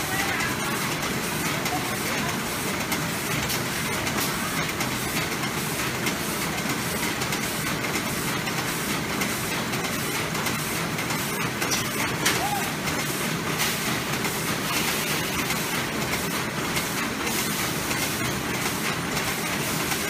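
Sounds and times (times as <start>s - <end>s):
bag-making machines clattering: 0.0s - 20.0s.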